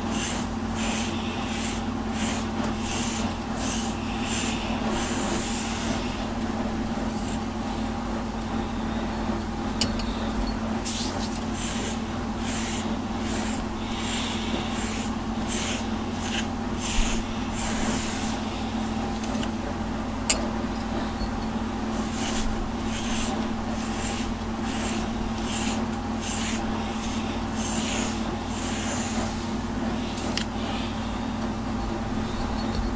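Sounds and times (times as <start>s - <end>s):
brush swishing through fur: 0.0s - 9.2s, 10.1s - 19.3s, 20.7s - 30.9s.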